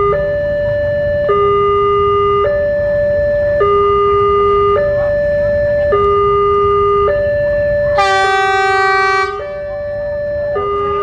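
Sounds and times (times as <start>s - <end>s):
level crossing two-tone alarm: 0.0s - 11.0s.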